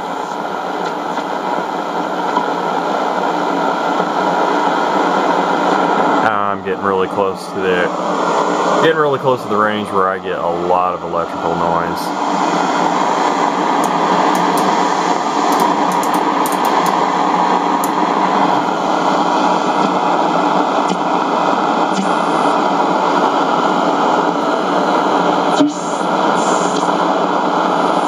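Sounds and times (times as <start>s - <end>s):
radio static hiss and buzz: 0.0s - 28.0s.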